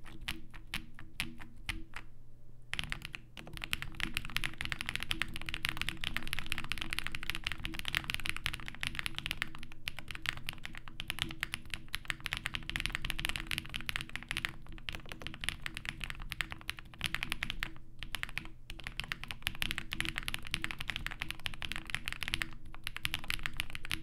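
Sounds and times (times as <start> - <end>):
mechanical keyboard typing: 2.7 - 24.0.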